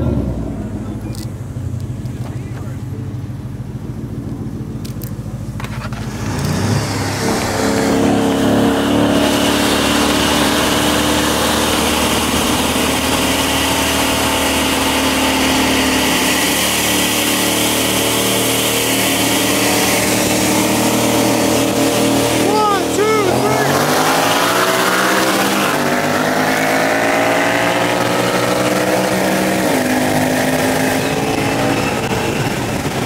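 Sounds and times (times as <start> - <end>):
car engines accelerating hard: 0.0 - 33.0
wind and road noise: 0.0 - 33.0.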